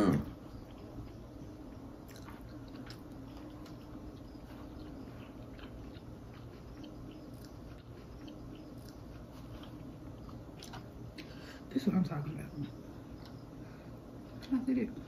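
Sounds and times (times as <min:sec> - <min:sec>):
people chewing food: 0:00.0 - 0:15.0
steady low hum: 0:00.0 - 0:15.0.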